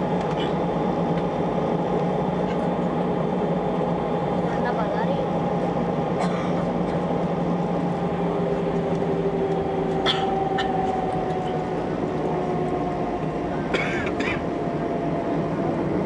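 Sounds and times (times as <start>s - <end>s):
jet engines humming and whining: 0.0s - 16.0s.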